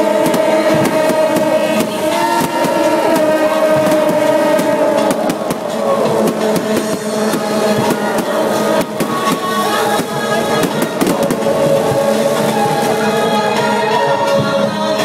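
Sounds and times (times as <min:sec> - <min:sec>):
fireworks crackling and popping: 0:00.0 - 0:15.0
loud music with held tones: 0:00.0 - 0:15.0.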